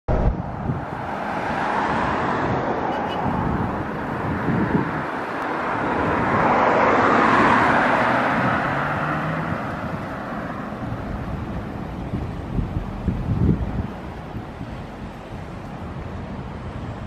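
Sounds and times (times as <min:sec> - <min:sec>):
road vehicle passing: 0:00.1 - 0:17.0.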